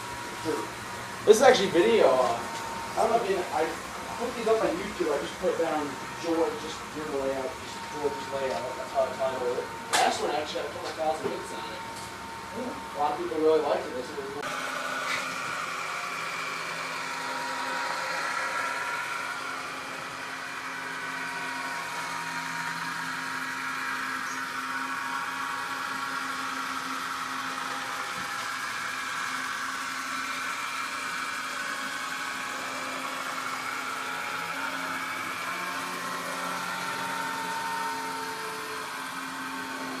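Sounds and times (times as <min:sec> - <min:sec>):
model train motors whirring: 0:00.0 - 0:40.0.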